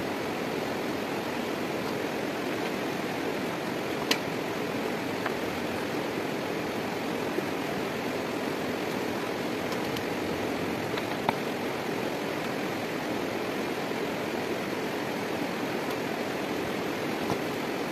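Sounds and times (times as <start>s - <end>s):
flowing water rushing: 0.0s - 17.9s.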